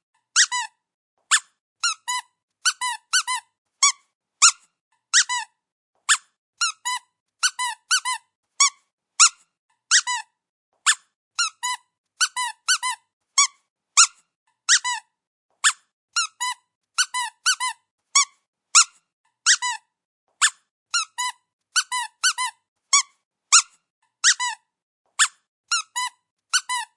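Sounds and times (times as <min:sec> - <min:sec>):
squeaky dog toy squeaks: 0:00.2 - 0:26.9.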